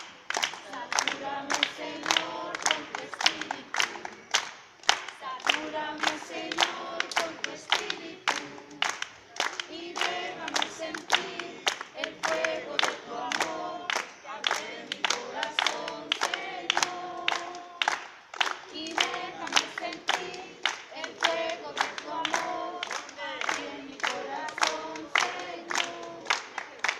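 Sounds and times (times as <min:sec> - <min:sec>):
group singing unaccompanied: 0:00.0 - 0:26.8
hands clapping: 0:00.0 - 0:26.9.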